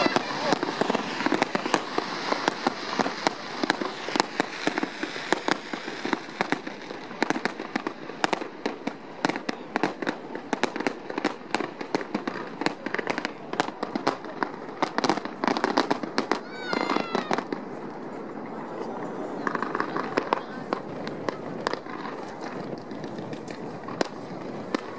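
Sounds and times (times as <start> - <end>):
fireworks bursting bangs: 0.0 - 24.9
fireworks crackle: 0.0 - 24.9.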